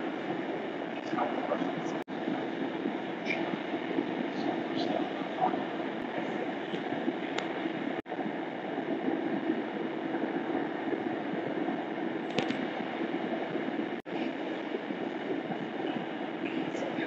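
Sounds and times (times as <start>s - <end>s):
faint even hum: 0.0s - 17.0s
low rumbling vehicle cabin noise: 0.0s - 17.0s.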